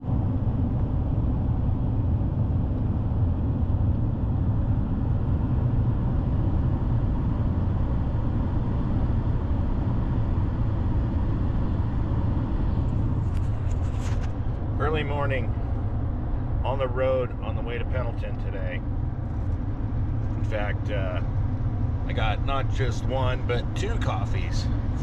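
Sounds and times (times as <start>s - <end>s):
truck driving on road: 0.0s - 25.0s.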